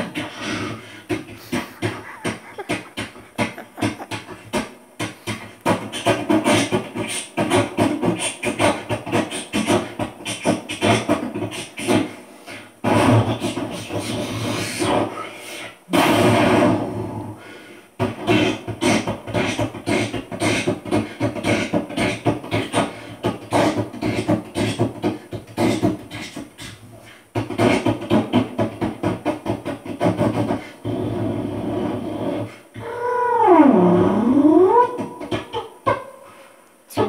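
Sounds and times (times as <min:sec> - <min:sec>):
person beatboxing: 0:00.0 - 0:33.1, 0:34.2 - 0:37.0.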